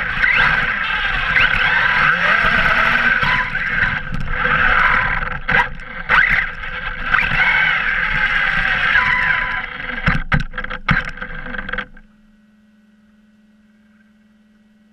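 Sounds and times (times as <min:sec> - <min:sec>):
electric motor whining: 0:00.0 - 0:12.1
drivetrain rattle: 0:00.0 - 0:12.2
faint steady hum: 0:00.0 - 0:14.9.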